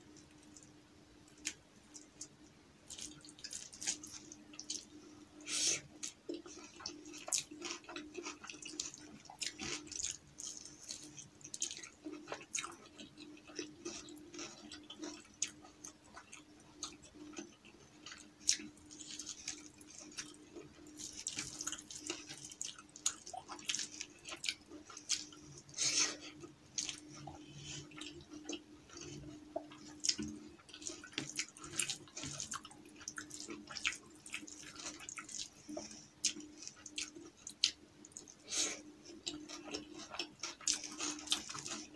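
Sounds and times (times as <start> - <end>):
faint steady hum: 0.0 - 41.9
wet chewing: 1.3 - 5.0, 5.8 - 38.4, 39.1 - 41.9.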